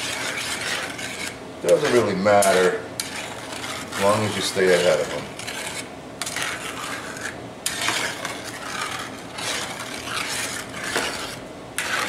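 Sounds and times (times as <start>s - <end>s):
metal spatula scraping frying pan: 0.0s - 12.0s.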